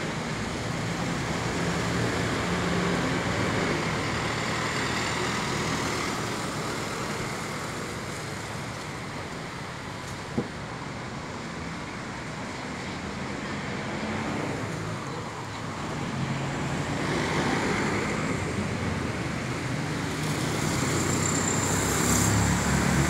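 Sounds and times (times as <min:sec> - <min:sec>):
traffic passing on wet street: 0:00.0 - 0:23.0.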